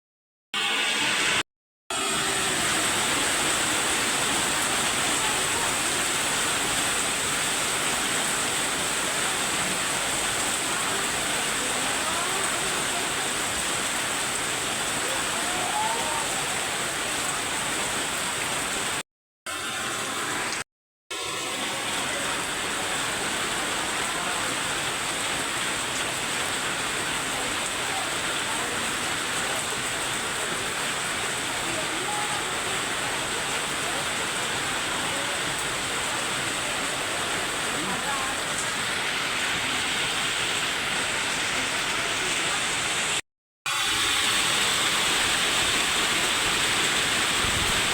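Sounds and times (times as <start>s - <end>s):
heavy rain pouring: 0.6s - 47.9s.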